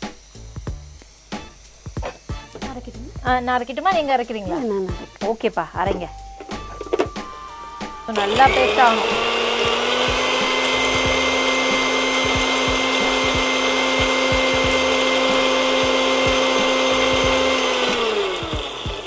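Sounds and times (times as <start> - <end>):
mixer grinder running: 0.0 - 4.4, 6.8 - 19.0.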